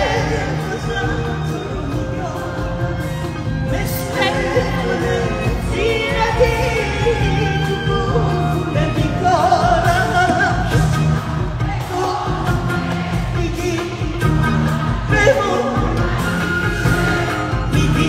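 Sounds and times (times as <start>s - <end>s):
live pop band playing: 0.0s - 18.0s
person singing: 0.0s - 18.0s.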